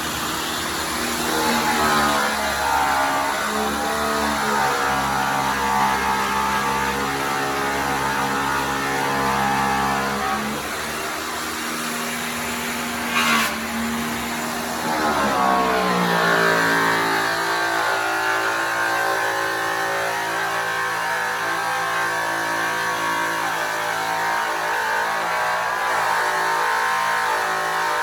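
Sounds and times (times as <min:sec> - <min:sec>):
angle grinder polisher motor hum: 0:00.0 - 0:25.3.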